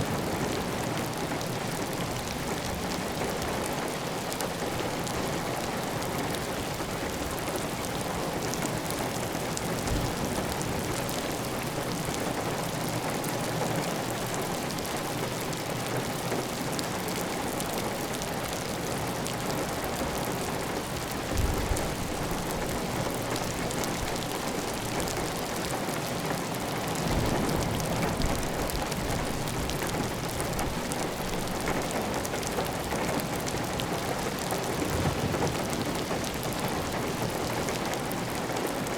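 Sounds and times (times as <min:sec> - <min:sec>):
heavy rain on a tile roof: 0:00.0 - 0:38.9.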